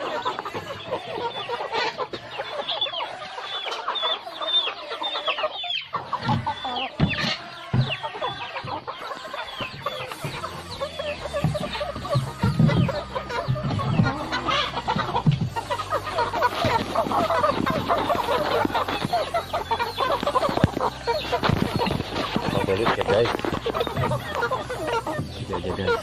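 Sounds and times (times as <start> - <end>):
chickens clucking: 0.0 - 26.0
high chick peeps: 0.0 - 26.0.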